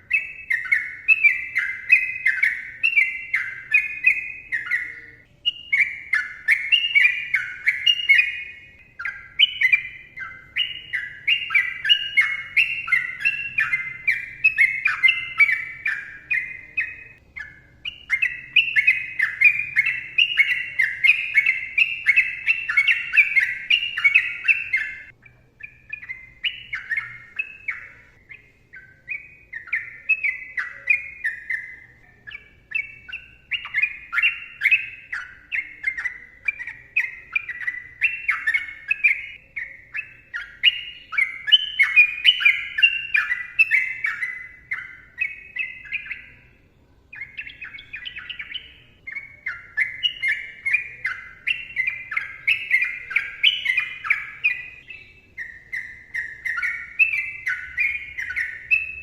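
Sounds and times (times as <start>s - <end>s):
bird singing bubbling whistled notes: 0.0s - 59.0s.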